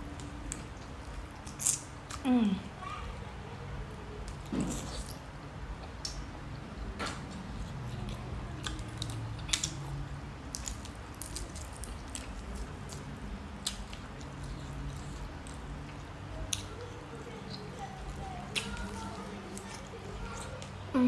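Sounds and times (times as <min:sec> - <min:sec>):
person chewing food: 0:00.0 - 0:02.3, 0:04.2 - 0:20.9
steady low hum: 0:00.0 - 0:21.0.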